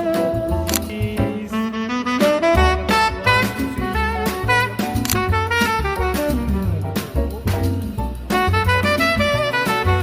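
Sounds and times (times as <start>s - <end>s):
jazz saxophone melody: 0.0s - 10.0s.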